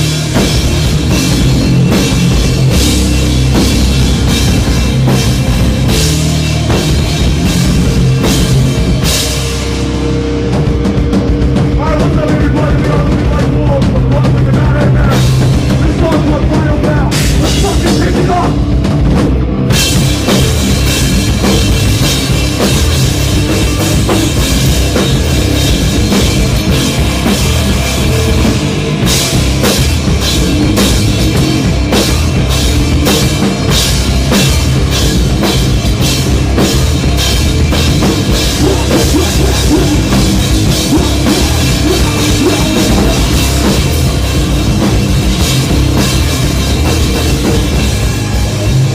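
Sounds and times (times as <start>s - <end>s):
drum kit: 0.0s - 48.9s
rock band playing: 0.0s - 48.9s.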